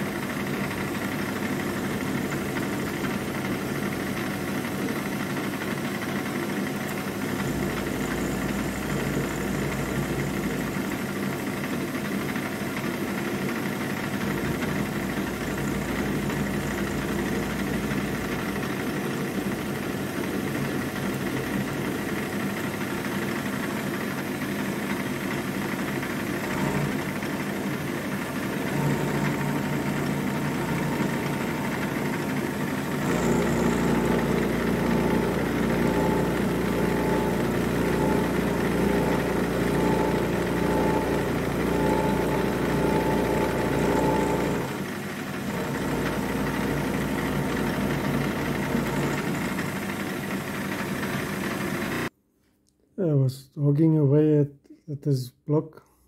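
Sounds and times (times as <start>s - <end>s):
milling machine cutting metal: 0.0s - 52.1s.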